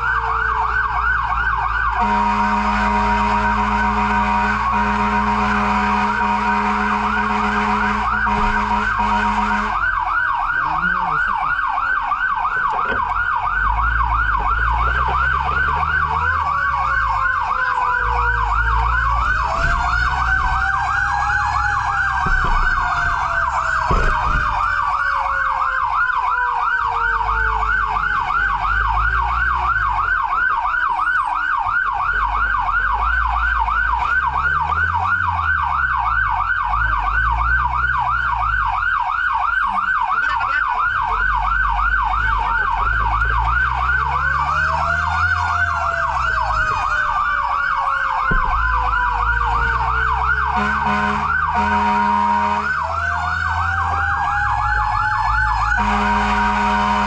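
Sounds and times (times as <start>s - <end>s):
emergency siren yelping: 0.0s - 57.0s
low engine rumble: 0.0s - 57.0s
slower wailing siren: 0.0s - 57.0s.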